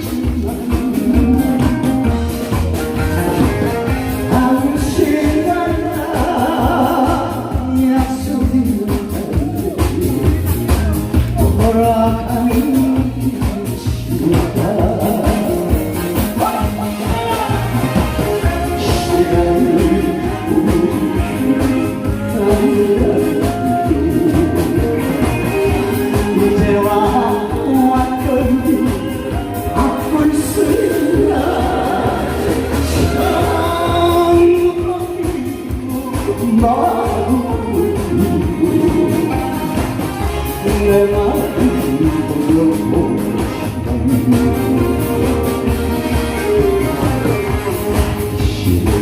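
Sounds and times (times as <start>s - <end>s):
amplified backing music: 0.0s - 49.0s
person singing: 0.0s - 49.0s.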